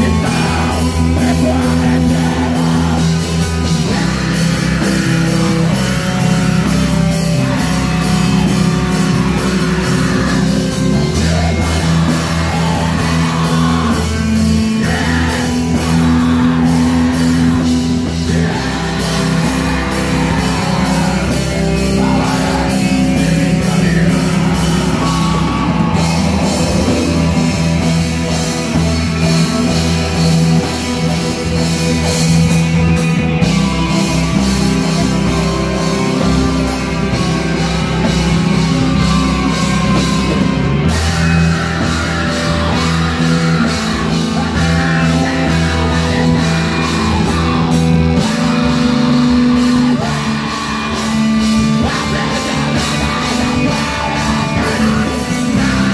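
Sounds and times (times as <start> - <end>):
bass guitar: 0.0 - 55.9
distorted electric guitars: 0.0 - 55.9
drums: 0.0 - 55.9
keyboard: 0.0 - 55.9
vocalist singing: 0.0 - 55.9.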